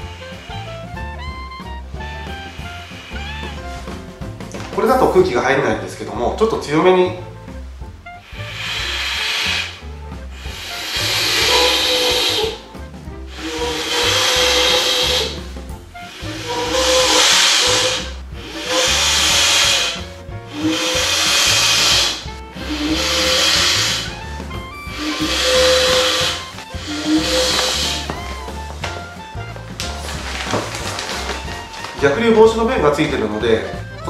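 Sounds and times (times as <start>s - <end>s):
hissing breath puffs into valve: 0.0s - 1.2s, 1.9s - 4.5s, 8.1s - 32.1s.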